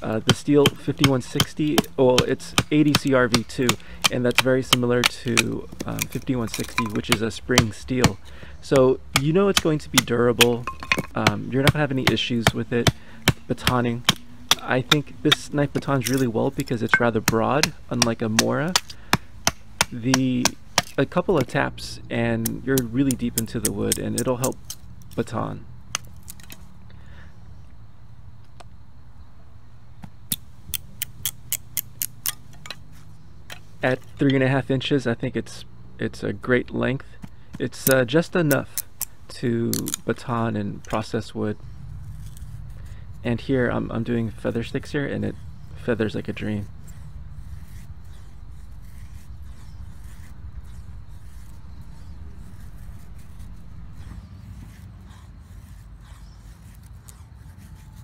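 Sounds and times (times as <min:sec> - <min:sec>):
knife scraping wooden stick: 0:00.0 - 0:26.7, 0:30.3 - 0:34.6, 0:37.5 - 0:58.0
low background hum: 0:00.0 - 0:58.0.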